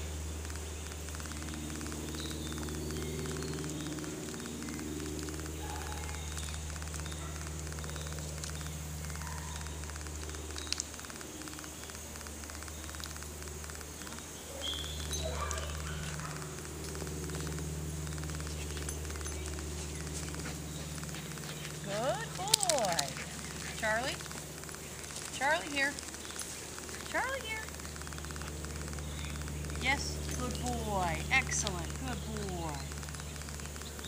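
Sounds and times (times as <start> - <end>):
bird chirps: 0.0 - 34.0
insects ticking: 0.0 - 34.0
low hum: 0.0 - 34.0.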